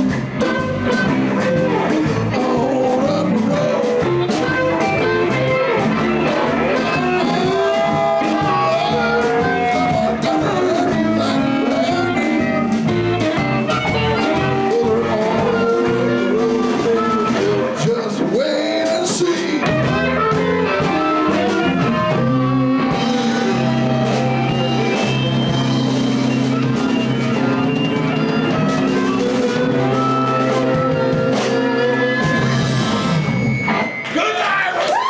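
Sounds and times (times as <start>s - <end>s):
live blues band playing: 0.0s - 34.2s.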